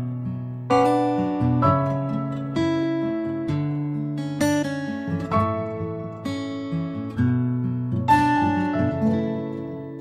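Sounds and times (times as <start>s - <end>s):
instrumental chords ringing: 0.0s - 10.0s.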